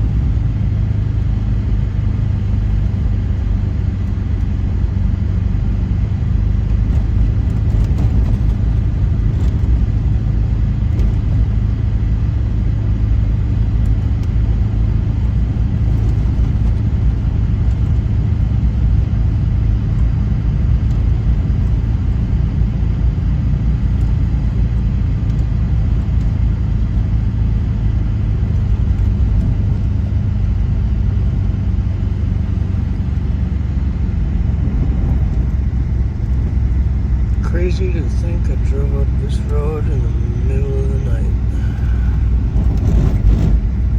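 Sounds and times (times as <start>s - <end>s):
car engine rumble: 0.0s - 43.9s
road noise: 0.0s - 43.9s.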